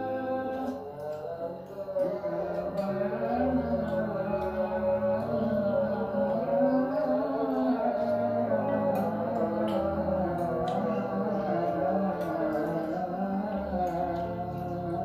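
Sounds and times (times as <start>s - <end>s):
music with sung melody: 0.0s - 15.0s.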